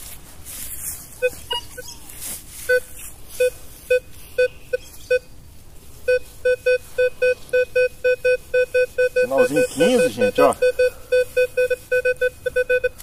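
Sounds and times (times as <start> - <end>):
metal detector beeping: 1.2 - 2.0, 2.6 - 5.3, 6.1 - 13.0.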